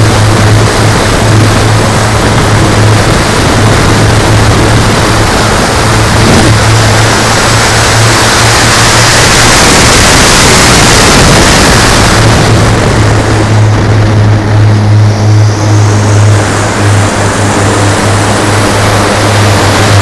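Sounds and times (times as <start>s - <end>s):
model aircraft engines droning: 0.0s - 20.0s.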